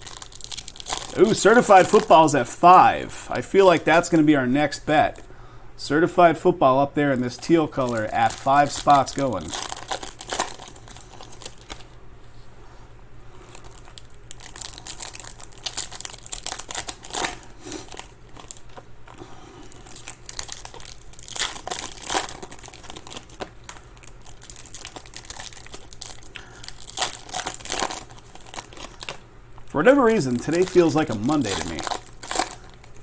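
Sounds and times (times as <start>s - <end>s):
foil wrappers tearing and crinkling: 0.0s - 4.3s, 7.0s - 11.9s, 13.4s - 33.0s.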